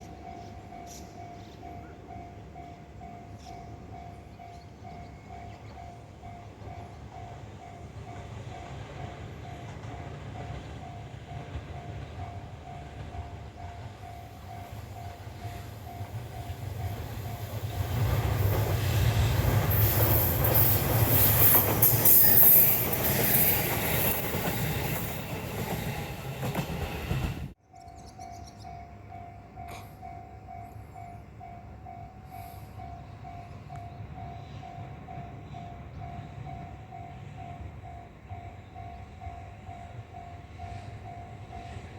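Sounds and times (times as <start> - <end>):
train wheel and rail noise: 0.0 - 41.9.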